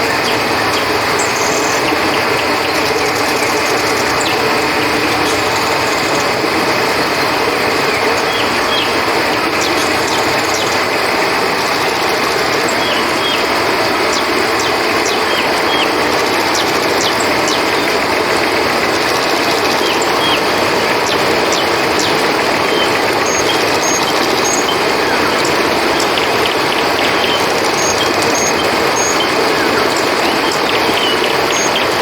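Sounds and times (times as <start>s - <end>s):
crickets trilling: 0.0s - 32.0s
river water flowing: 0.0s - 32.0s.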